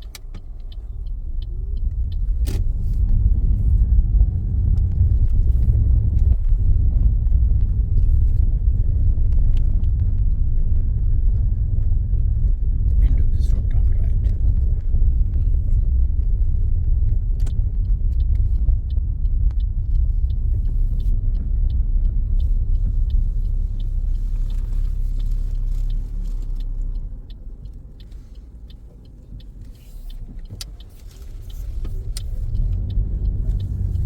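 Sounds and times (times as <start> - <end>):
car road and engine rumble: 0.0 - 34.0
turn indicator ticking: 0.0 - 34.0.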